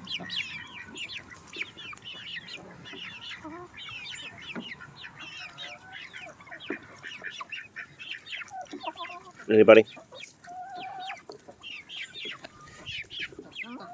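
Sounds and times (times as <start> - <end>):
chickens clucking and cheeping: 0.0 - 13.9.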